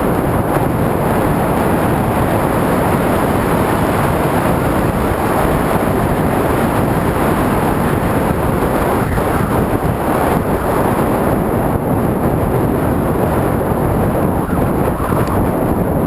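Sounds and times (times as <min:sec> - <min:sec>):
mountain bike riding noise: 0:00.0 - 0:16.0
wind buffeting microphone: 0:00.0 - 0:16.0.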